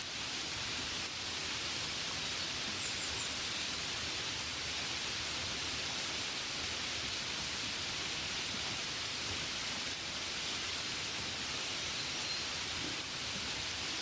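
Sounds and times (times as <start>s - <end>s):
gentle rain falling: 0.0s - 14.0s.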